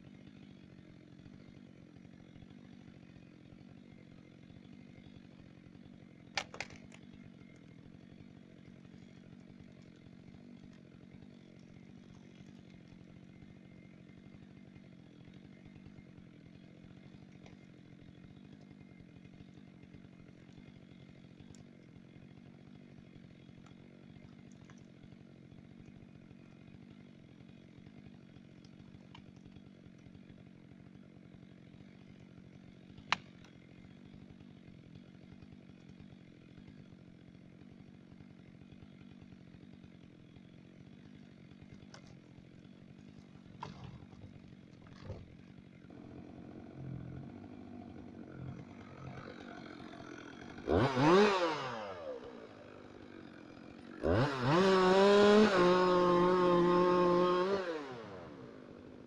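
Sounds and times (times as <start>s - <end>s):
chainsaw engine running: 0.0s - 59.0s.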